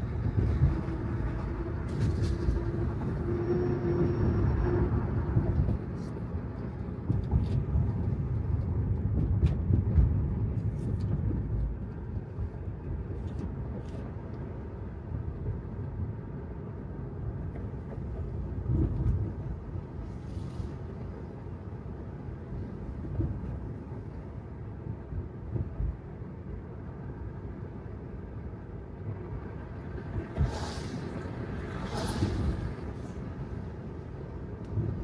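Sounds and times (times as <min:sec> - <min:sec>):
car road and tyre noise: 0:00.0 - 0:35.0.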